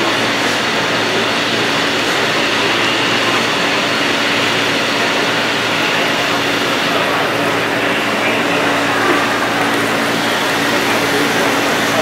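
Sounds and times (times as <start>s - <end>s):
din of hall crowd: 0.0s - 12.0s
model train running: 0.0s - 12.0s.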